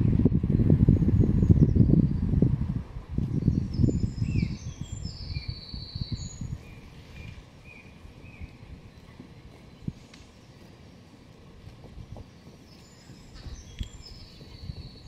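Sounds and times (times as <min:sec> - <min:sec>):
low gusty rumble: 0:00.0 - 0:15.0
songbirds chirping and trilling: 0:00.0 - 0:15.0.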